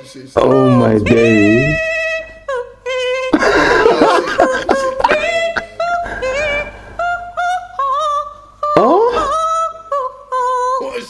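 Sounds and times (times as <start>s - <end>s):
woman humming: 0.4s - 9.7s.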